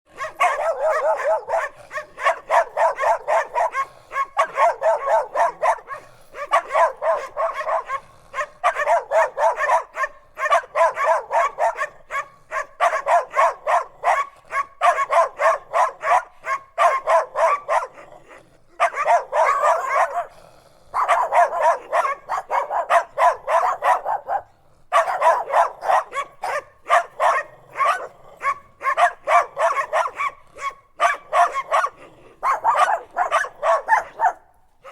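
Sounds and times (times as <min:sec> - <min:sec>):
dogs barking rapidly: 0:00.1 - 0:34.9.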